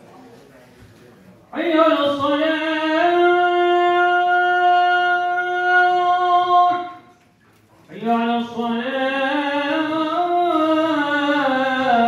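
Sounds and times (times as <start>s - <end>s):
man chanting call to prayer: 1.5s - 7.1s, 7.9s - 12.0s.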